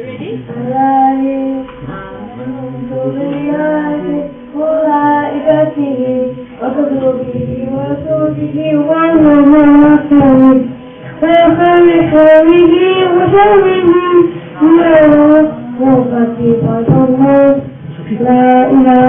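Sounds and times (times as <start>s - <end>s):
child chanting: 0.1s - 10.6s, 11.2s - 19.0s.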